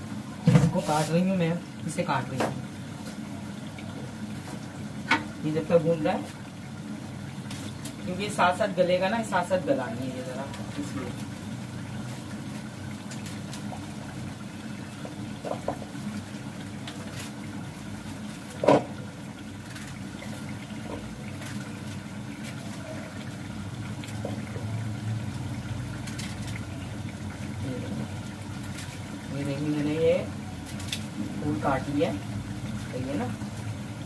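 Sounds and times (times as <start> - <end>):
food sizzling in pot: 0.0 - 34.0.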